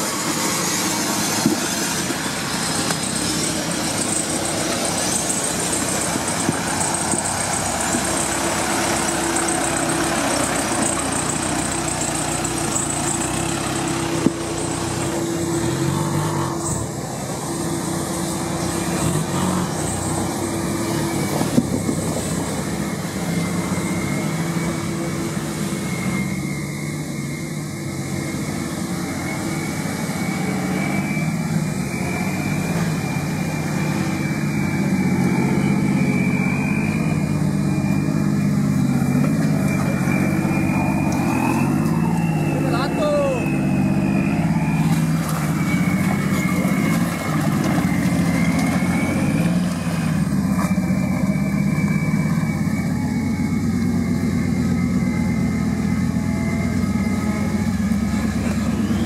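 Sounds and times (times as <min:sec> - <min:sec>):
off-road engines at low revs: 0:00.0 - 0:59.0
thin steady whine: 0:00.0 - 0:59.0.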